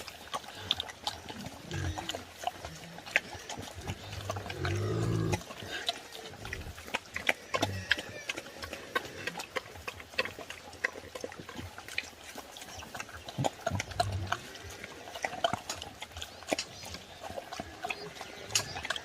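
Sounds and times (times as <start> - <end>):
pigs grunting: 0.0 - 19.0.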